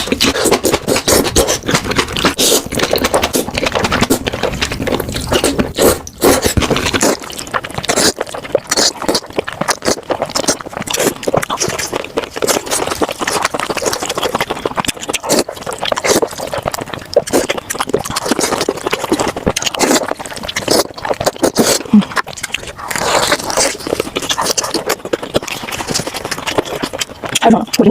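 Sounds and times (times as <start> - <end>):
slurping and chewing noodles: 0.0 - 27.9.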